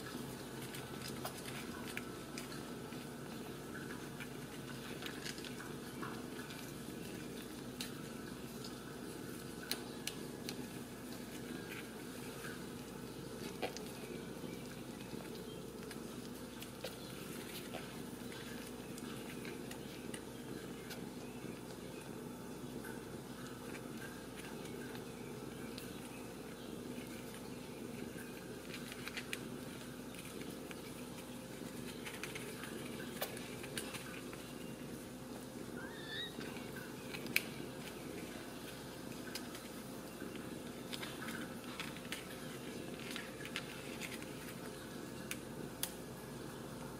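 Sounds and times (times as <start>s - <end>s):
kittens suckling wet clicks: 0.0s - 34.9s, 35.6s - 46.0s
steady low hum: 0.0s - 46.9s.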